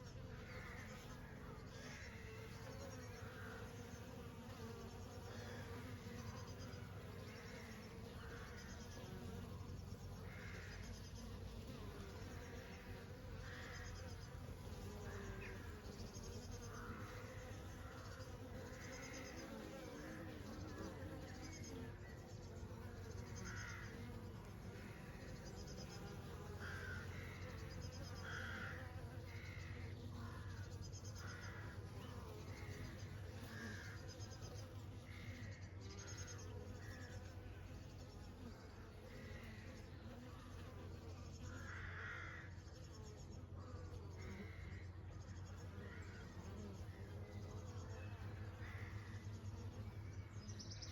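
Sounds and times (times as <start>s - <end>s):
honey bees buzzing: 0.0s - 50.9s.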